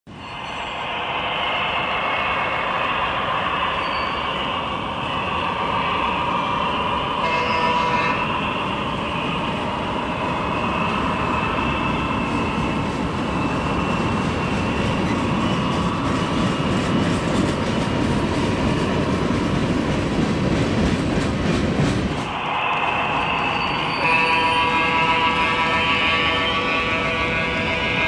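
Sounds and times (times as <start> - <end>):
diesel train running: 0.1 - 28.0.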